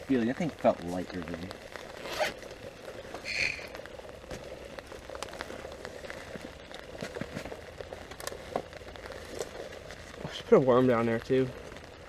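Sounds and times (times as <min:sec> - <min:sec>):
rain pattering on fabric roof: 0:00.0 - 0:12.0.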